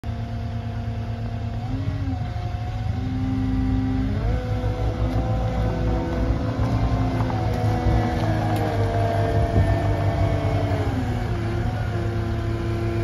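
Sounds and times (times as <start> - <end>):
diesel engine rumbling and whining: 0.0 - 13.0.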